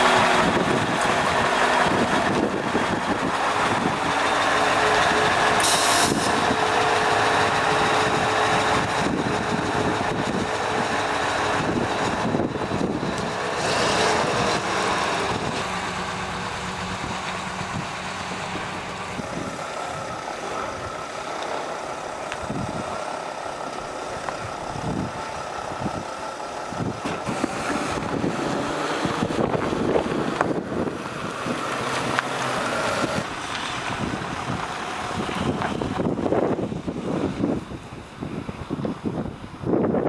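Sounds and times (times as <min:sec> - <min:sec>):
diesel engine running: 0:00.0 - 0:40.0
passing vehicles: 0:00.0 - 0:40.0.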